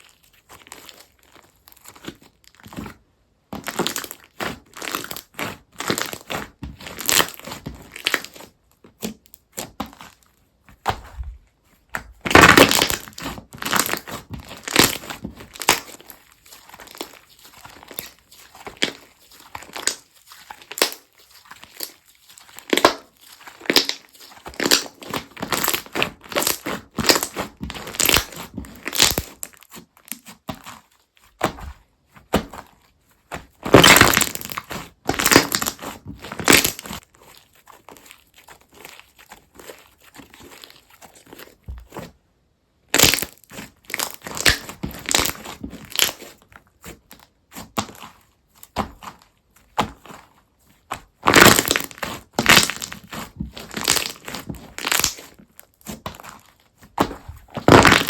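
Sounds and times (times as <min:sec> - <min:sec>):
crunchy slime crackling: 0:00.0 - 0:42.2, 0:42.8 - 0:58.0.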